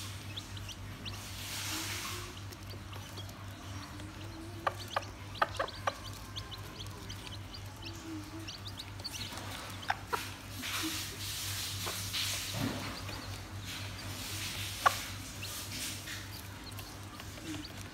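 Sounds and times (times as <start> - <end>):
chicks peeping: 0.0 - 17.9
hen clucking softly: 0.1 - 11.1, 11.8 - 17.9
hen pecking cardboard: 0.1 - 17.9.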